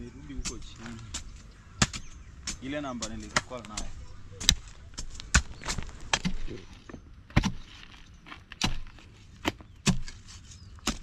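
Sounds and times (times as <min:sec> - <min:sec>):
digging tool striking hard ground: 0:00.2 - 0:06.7, 0:07.3 - 0:11.0.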